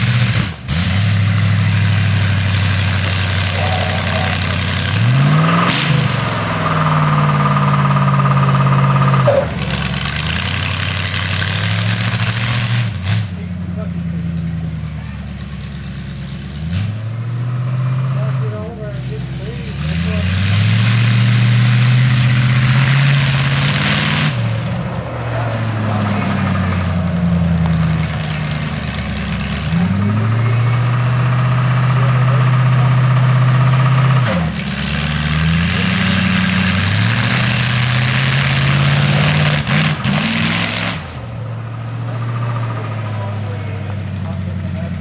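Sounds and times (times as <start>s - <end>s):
car engine revving: 0.0s - 45.0s
loud exhaust rush: 0.0s - 45.0s.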